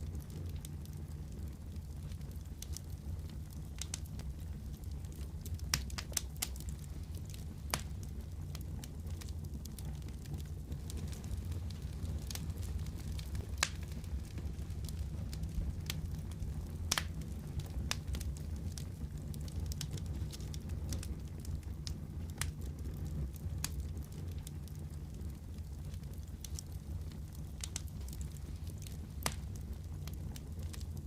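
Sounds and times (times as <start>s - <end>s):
fire crackling and popping: 0.0s - 31.0s
fire flames rumbling: 0.0s - 31.0s.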